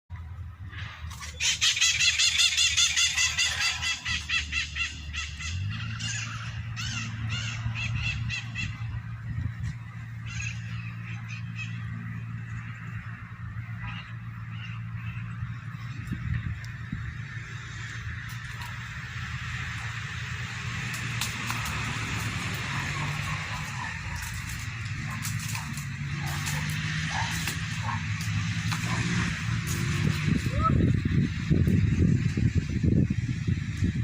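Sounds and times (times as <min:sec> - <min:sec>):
birds making raspy calls: 0:00.7 - 0:30.7.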